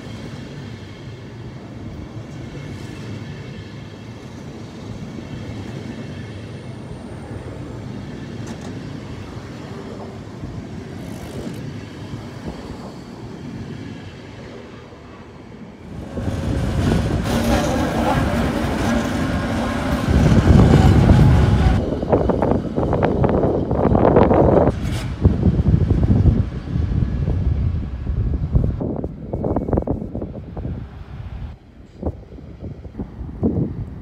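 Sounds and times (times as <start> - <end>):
passing locomotive engine hum: 0.0 - 34.0
low station rumble: 3.3 - 34.0.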